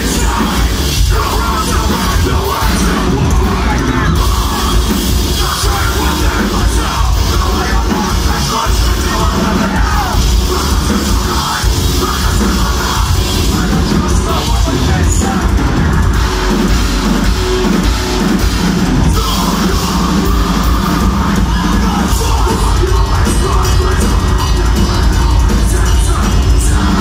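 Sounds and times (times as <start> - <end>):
metal band playing live: 0.0 - 27.0.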